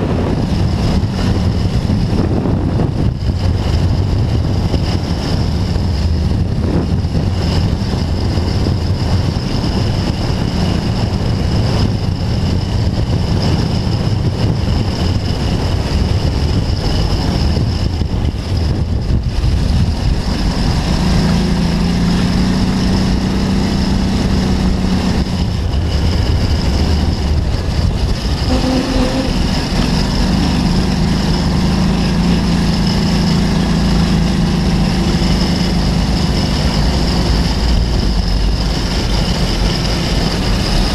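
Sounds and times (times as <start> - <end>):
buggy engine running hard: 0.0 - 40.9.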